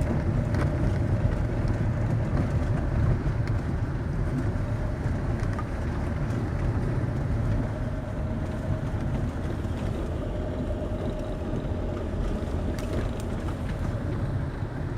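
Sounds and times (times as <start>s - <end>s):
van road and engine rumble: 0.0s - 14.9s.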